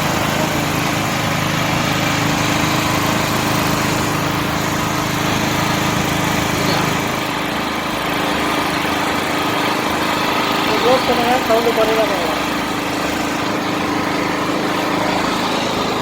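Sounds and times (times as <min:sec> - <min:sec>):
generator engine running: 0:00.0 - 0:16.0.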